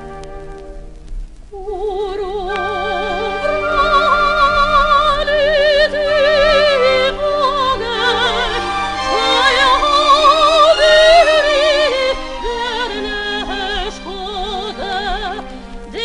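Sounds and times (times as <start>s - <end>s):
instrumental accompaniment: 0.0s - 1.4s, 2.4s - 16.0s
operatic soprano singing: 1.5s - 16.0s.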